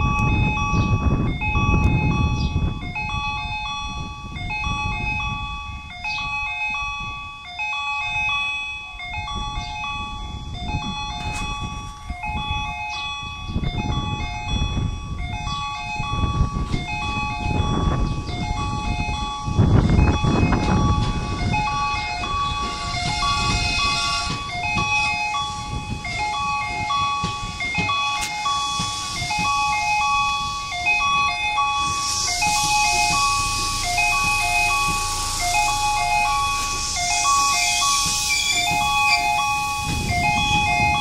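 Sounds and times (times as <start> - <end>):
electronic warning tones: 0.0 - 41.0
wind buffeting microphone: 0.0 - 41.0.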